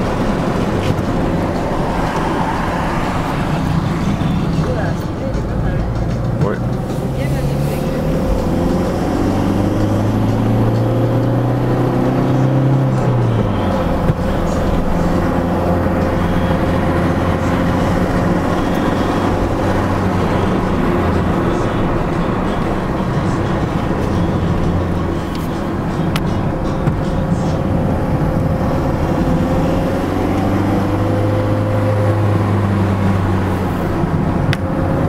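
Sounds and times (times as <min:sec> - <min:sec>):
car engine under load: 0:00.0 - 0:35.0
tyre and road noise: 0:00.0 - 0:35.0.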